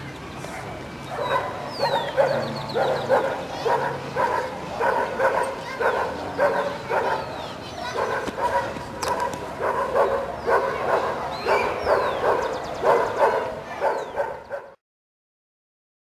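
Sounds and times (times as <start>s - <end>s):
dogs barking: 0.4s - 14.8s.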